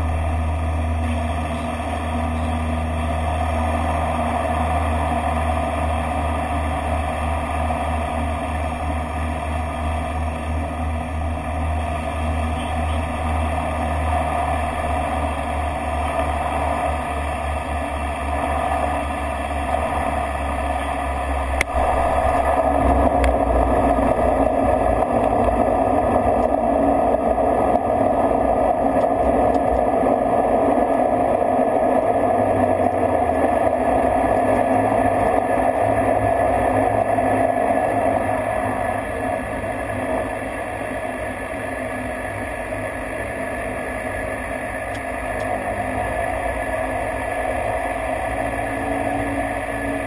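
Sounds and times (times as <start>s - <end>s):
turboprop engine and propeller noise: 0.0s - 50.0s.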